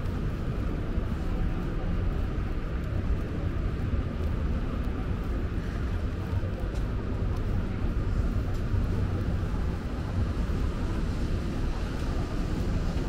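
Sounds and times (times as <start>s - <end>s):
light hiss of rain: 0.0s - 13.0s
low rumble of city traffic: 0.0s - 13.0s.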